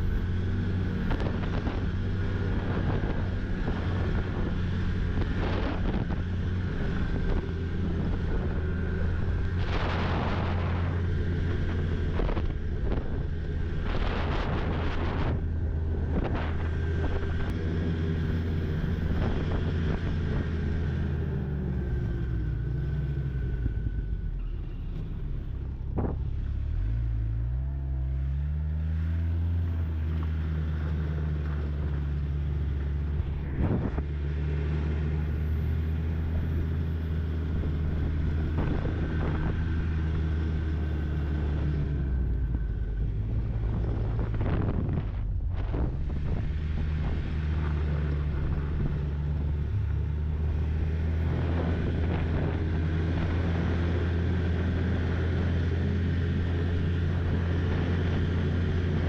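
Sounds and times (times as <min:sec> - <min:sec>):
snowmobile engine: 0:00.0 - 0:59.0
wind: 0:00.0 - 0:59.0.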